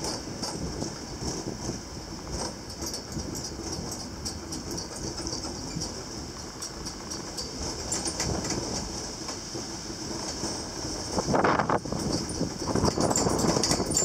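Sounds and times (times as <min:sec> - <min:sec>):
funicular car rattling and creaking: 0:00.0 - 0:14.0.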